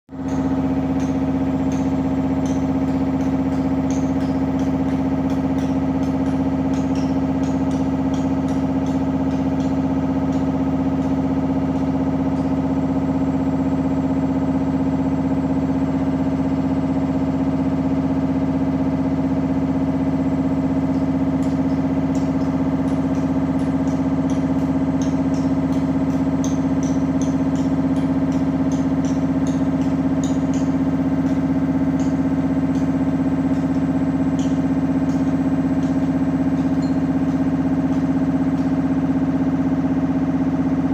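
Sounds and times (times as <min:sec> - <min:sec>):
washing machine humming: 0:00.1 - 0:40.9.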